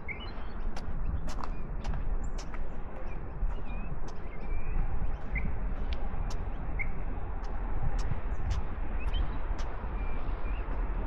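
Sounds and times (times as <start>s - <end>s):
small birds chirping: 0.0s - 5.6s, 6.2s - 10.9s
wind rumble on microphone: 0.0s - 11.0s.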